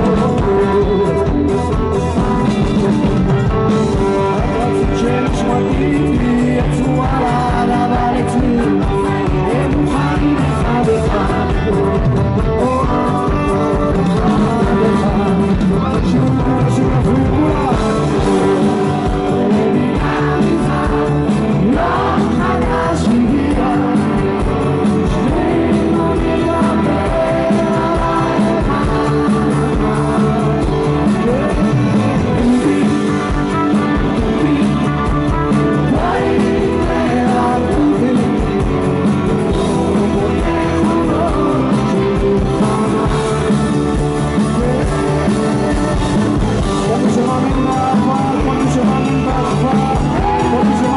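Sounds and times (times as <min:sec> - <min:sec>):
live rock band: 0:00.0 - 0:50.9
man singing: 0:00.0 - 0:50.9.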